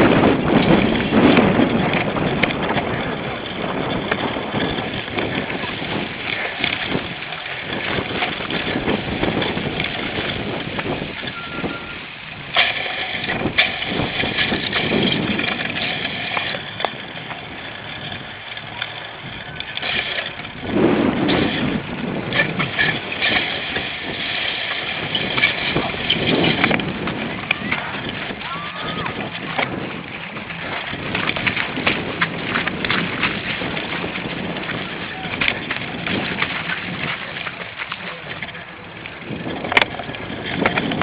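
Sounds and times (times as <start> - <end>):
rushing air: 0.0 - 37.4
bike rattling over bumps: 0.0 - 41.0
bike tyres rumbling: 0.0 - 41.0.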